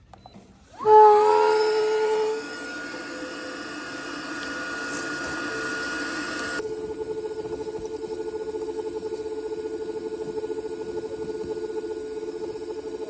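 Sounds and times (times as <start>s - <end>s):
small electric motor whining: 0.8s - 13.0s.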